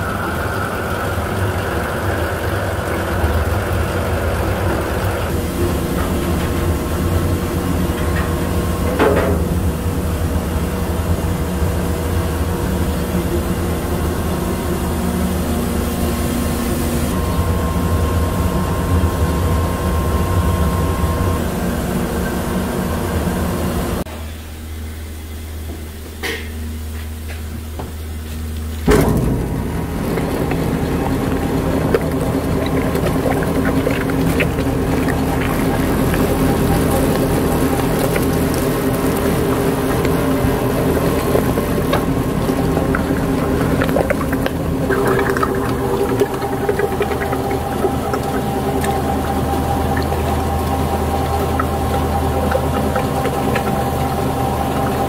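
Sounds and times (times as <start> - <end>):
mill machinery humming: 0.0 - 55.0.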